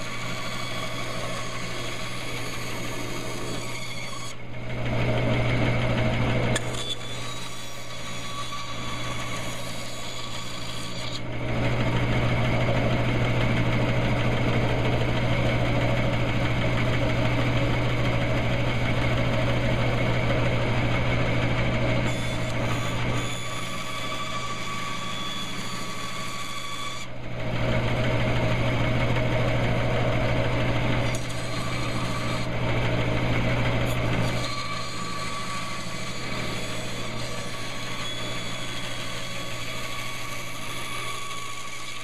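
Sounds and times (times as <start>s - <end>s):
bandsaw humming: 0.0s - 42.0s.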